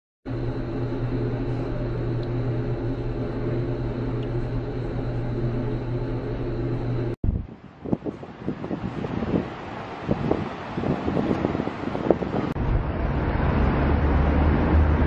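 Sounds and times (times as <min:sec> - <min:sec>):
elevator mechanical hum: 0:00.3 - 0:15.0.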